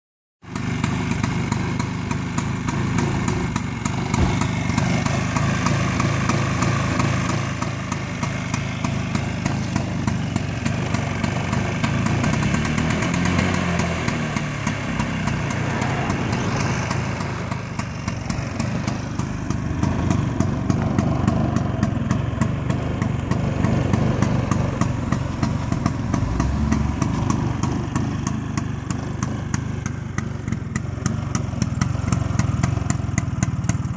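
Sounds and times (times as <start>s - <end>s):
scooter engine idling: 0.4s - 33.9s.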